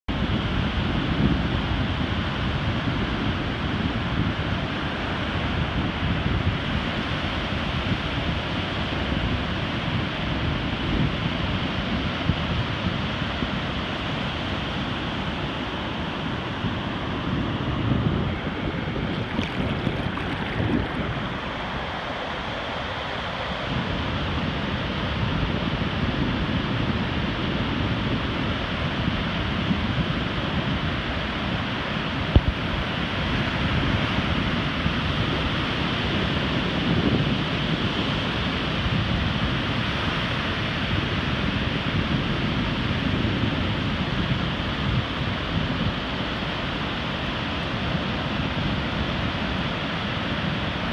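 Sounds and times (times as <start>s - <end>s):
ocean surf washing on beach: 0.1s - 50.9s
wind buffeting microphone: 0.1s - 50.9s.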